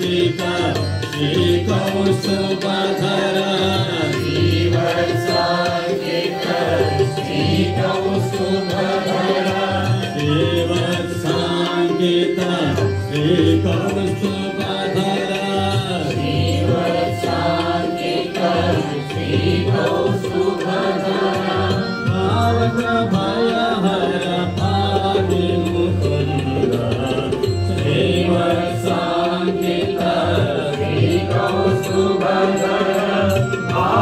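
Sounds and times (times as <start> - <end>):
group singing devotional song: 0.0 - 34.0
rhythmic drum beat: 0.0 - 34.0.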